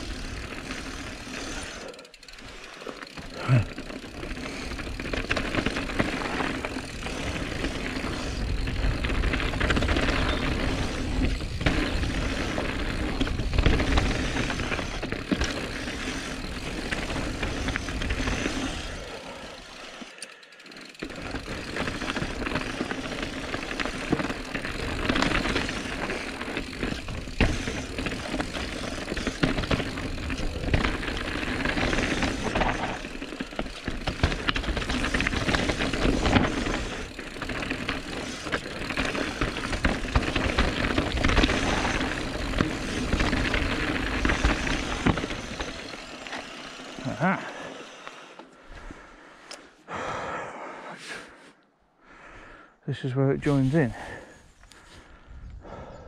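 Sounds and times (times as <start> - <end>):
bike rattling and knocking: 0.0 - 47.6
bike tyres rushing over dirt: 0.0 - 51.2, 53.4 - 56.0.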